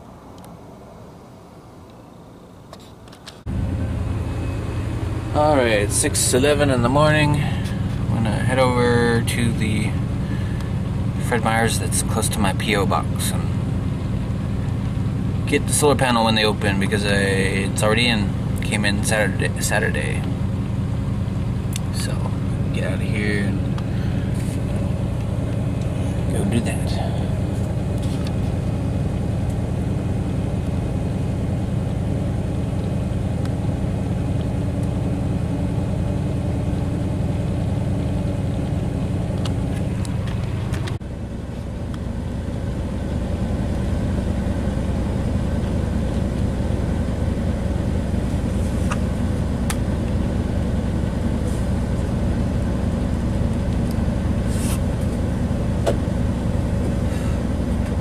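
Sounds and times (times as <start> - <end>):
engine low hum from inside cab: 0.0 - 58.0.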